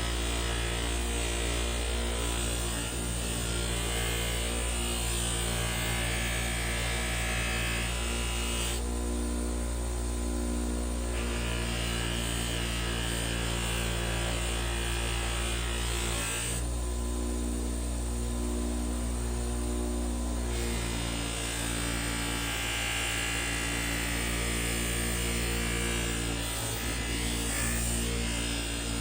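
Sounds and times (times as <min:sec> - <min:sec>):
bench grinder motor humming: 0:00.0 - 0:29.0.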